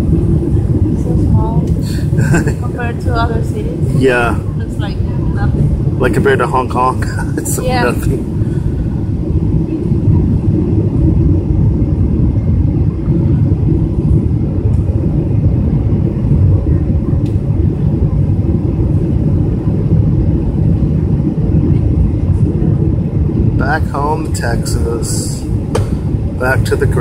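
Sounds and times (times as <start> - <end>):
airliner cabin engine rumble: 0.0 - 27.0.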